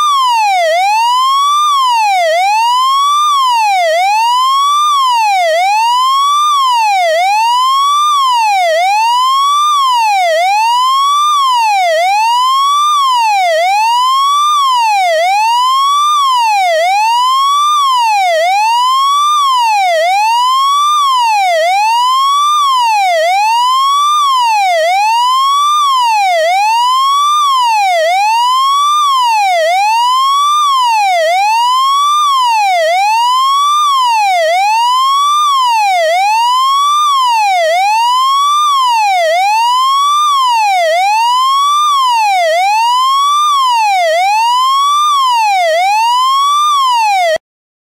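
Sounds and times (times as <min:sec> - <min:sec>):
fire engine siren whooping: 0:00.0 - 0:47.4.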